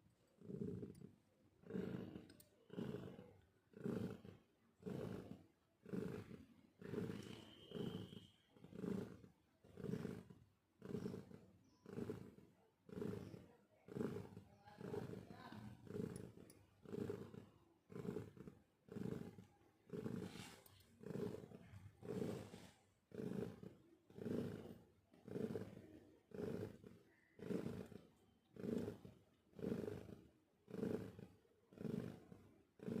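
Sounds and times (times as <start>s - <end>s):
cat snoring: 0.4s - 33.0s.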